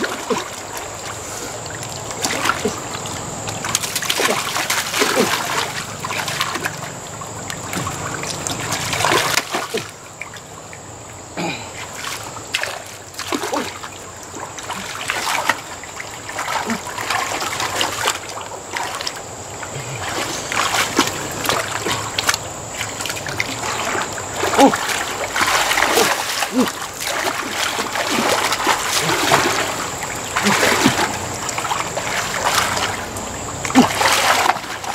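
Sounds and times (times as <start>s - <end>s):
splashing in muddy water: 0.0s - 34.9s.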